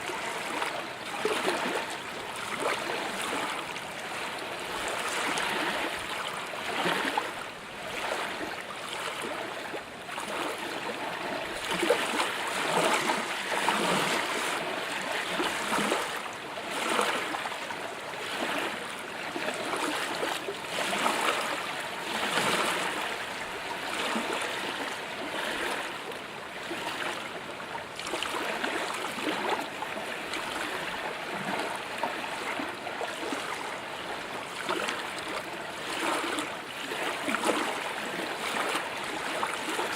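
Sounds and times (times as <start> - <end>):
small water splashes: 0.0 - 39.9
water lapping against boat hull: 0.0 - 39.9.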